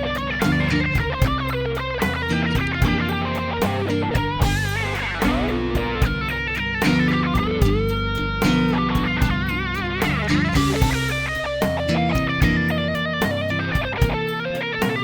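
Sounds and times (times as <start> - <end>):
bass: 0.0 - 15.0
drums: 0.0 - 15.0
electric guitar blues solo: 0.0 - 15.0.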